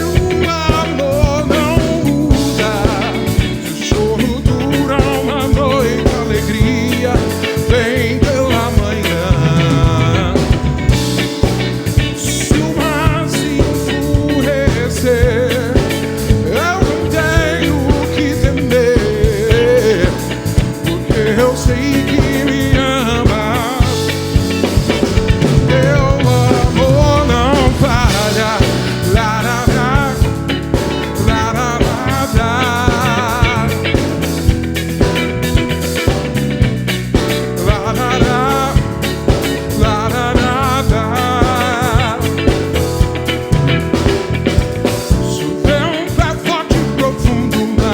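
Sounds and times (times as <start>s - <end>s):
drum beat: 0.0s - 47.9s
live band playing soul-funk: 0.0s - 47.9s
wavering melodic lead line: 0.0s - 47.9s.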